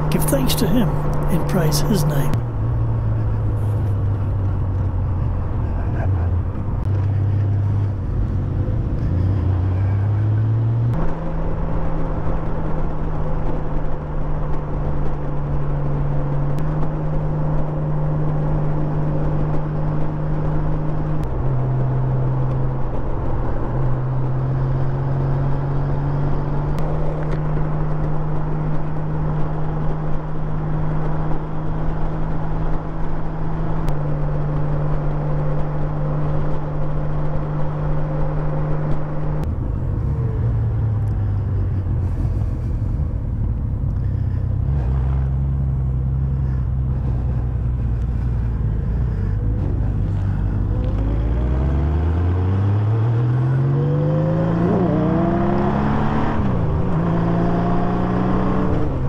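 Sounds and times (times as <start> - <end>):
motorcycle engine drone: 0.0 - 59.0.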